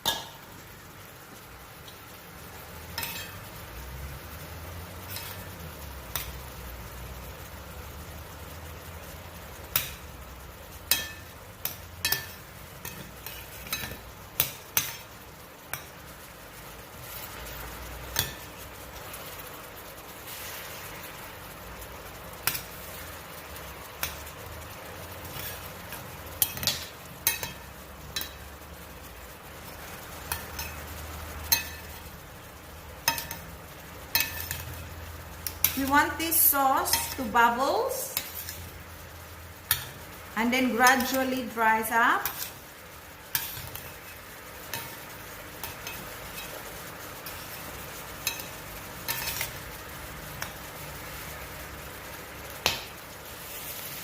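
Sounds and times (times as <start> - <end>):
chicken sizzling in sauce: 0.0 - 54.0.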